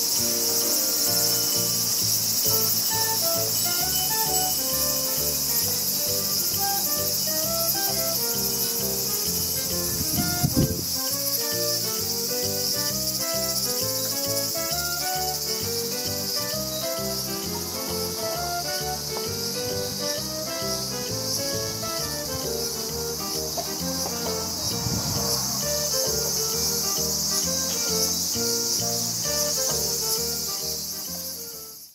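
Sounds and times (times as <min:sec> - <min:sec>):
background music melody: 0:00.0 - 0:31.9
insects droning: 0:00.0 - 0:31.9.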